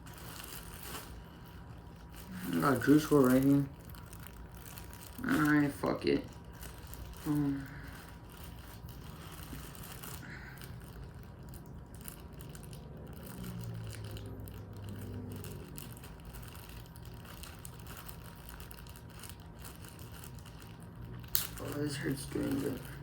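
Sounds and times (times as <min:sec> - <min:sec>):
package wrapping crinkling: 0:00.0 - 0:23.0.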